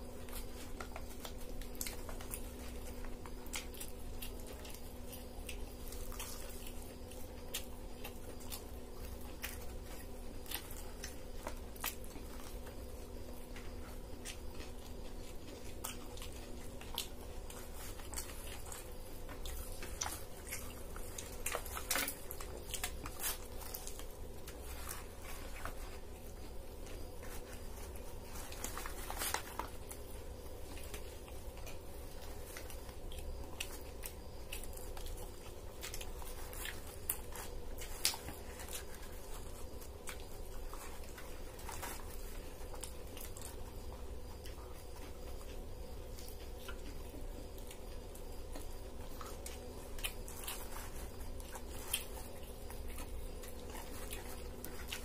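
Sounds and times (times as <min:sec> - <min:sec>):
people chewing and biting: 0:00.0 - 0:55.0
steady low hum: 0:00.0 - 0:55.0.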